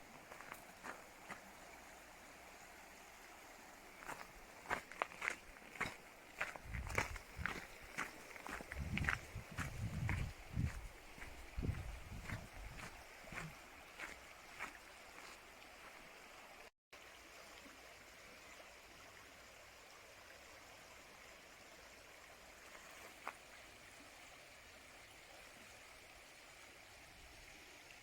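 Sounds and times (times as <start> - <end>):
river flowing: 0.0 - 28.0.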